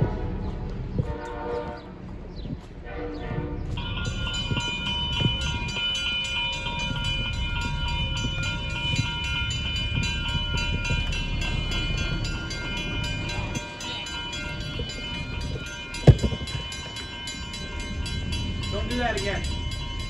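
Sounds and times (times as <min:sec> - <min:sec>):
train rumbling past: 0:00.0 - 0:20.0
high ringing tone: 0:03.8 - 0:20.0.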